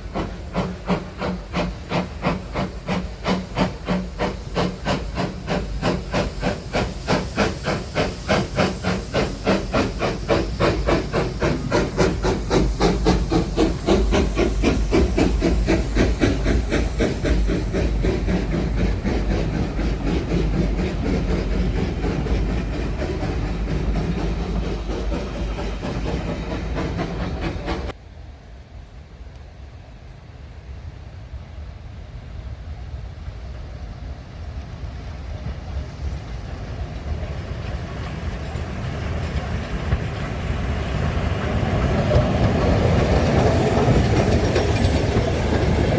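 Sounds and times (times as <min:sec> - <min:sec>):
steam hissing: 0:00.0 - 0:28.0, 0:34.6 - 0:45.9
steam locomotive exhaust beats: 0:00.0 - 0:28.0, 0:32.4 - 0:45.9.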